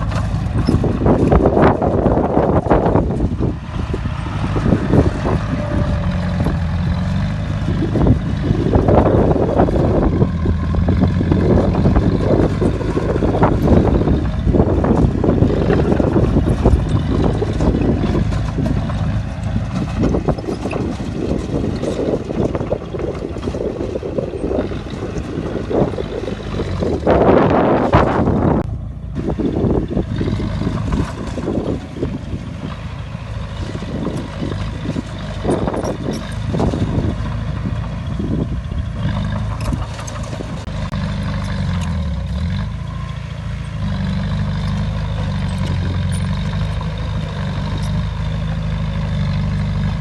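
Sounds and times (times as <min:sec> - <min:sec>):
bulldozer diesel engine rumbling: 0:00.0 - 0:50.0.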